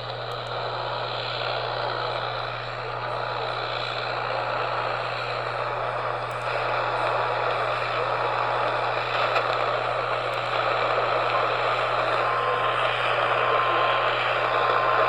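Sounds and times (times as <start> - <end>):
faint crackle: 0.0 - 15.0
low hum: 0.0 - 15.0
radio static hiss: 0.0 - 15.0.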